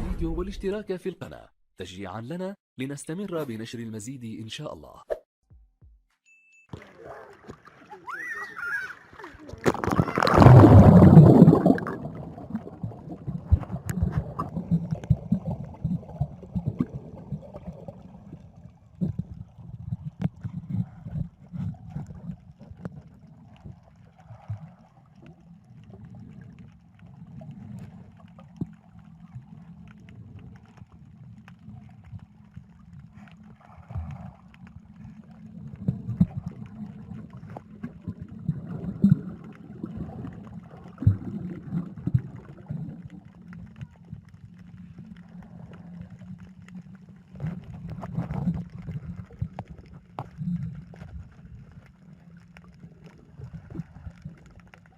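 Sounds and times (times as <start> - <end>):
underwater churning rumble: 0.0 - 1.0, 9.1 - 54.9
small underwater clicks: 9.0 - 10.5, 11.4 - 54.9.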